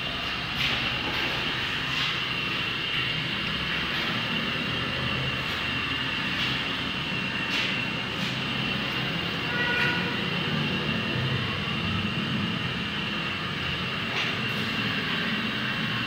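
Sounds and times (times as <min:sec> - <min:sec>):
high machine whine: 0:00.0 - 0:16.0
machinery rushing hum: 0:00.0 - 0:16.0.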